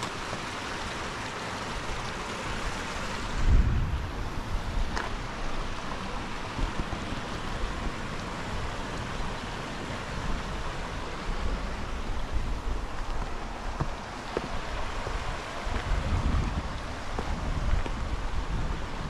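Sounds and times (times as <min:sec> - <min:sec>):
stream running over rocks: 0:00.0 - 0:19.0
wind buffeting microphone: 0:01.8 - 0:19.0.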